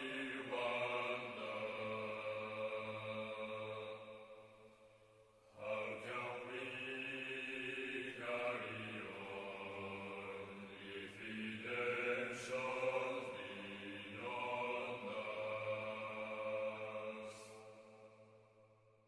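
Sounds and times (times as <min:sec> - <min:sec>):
slow chant-like vocals: 0:00.0 - 0:19.0.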